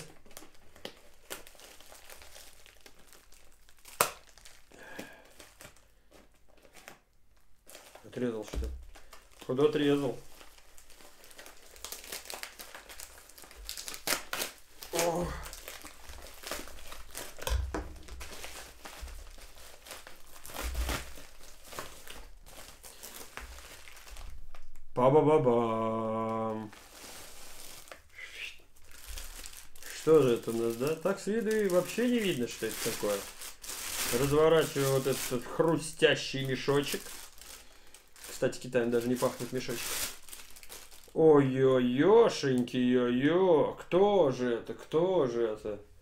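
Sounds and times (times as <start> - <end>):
plastic bag crinkling: 0.0 - 25.0, 25.6 - 41.3.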